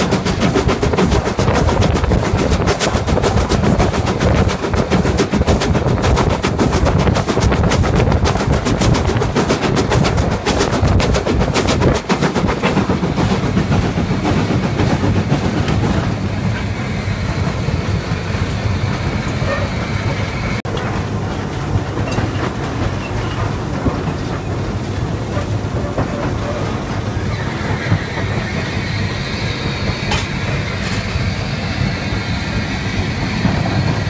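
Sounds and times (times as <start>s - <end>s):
rumble and rattle of cab: 0.0s - 34.0s
steam locomotive exhaust beats: 0.0s - 34.0s
train wheels on rails: 0.0s - 34.0s.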